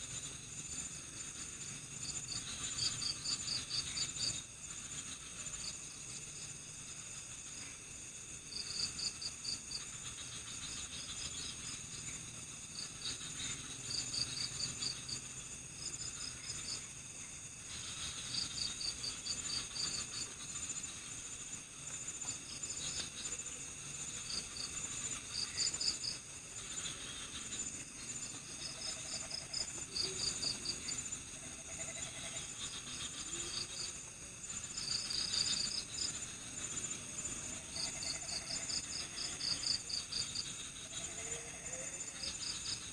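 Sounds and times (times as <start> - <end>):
high-pitched insect drone: 0.0 - 42.9
pulsed cricket trills: 0.0 - 42.9.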